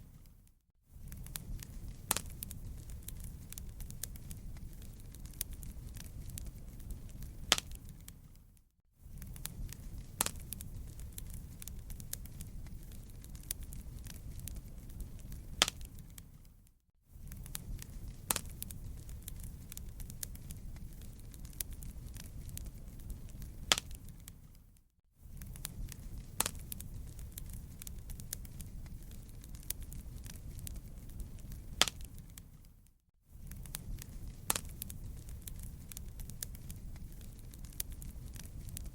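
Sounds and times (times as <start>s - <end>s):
low rumble of flames: 0.0s - 38.9s
wood fire crackling: 0.0s - 38.9s
loud fire pops: 1.0s - 8.2s, 9.1s - 16.3s, 17.2s - 24.5s, 25.3s - 32.6s, 33.4s - 38.9s.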